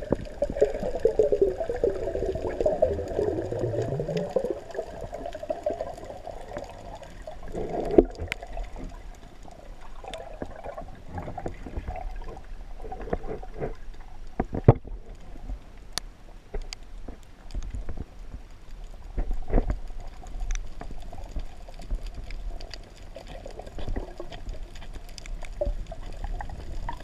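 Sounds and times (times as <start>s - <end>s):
underwater sloshing and gurgling: 0.0s - 27.0s.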